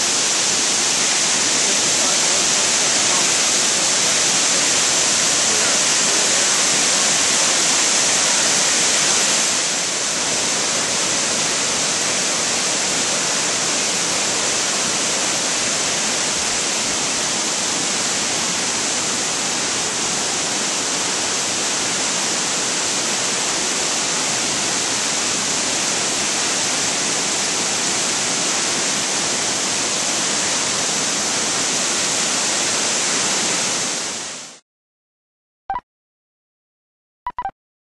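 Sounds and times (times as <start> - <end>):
waterfall rushing: 0.0 - 34.5.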